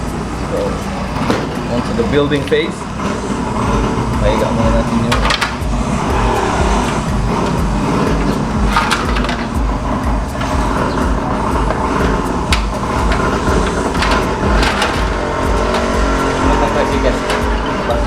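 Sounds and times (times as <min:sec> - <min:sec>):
motor tricycle engines rumbling: 0:00.0 - 0:18.0
sharp clicks and knocks: 0:00.0 - 0:18.0.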